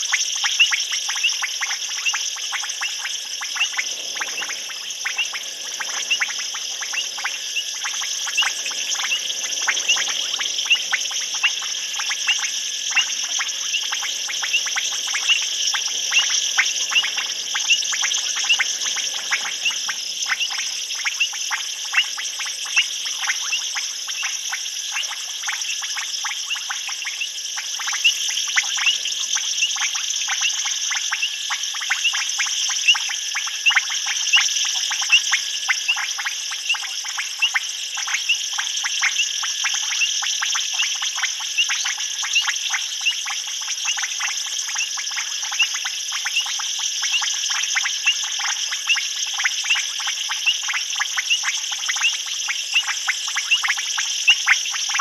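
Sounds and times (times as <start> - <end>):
frogs calling: 0.0 - 55.0
high-pitched insect trilling: 0.0 - 55.0.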